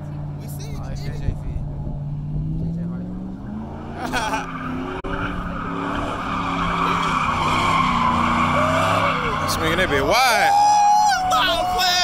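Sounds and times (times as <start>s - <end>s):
tires screeching on asphalt: 0.0s - 12.0s
truck engine running hard: 1.6s - 11.7s.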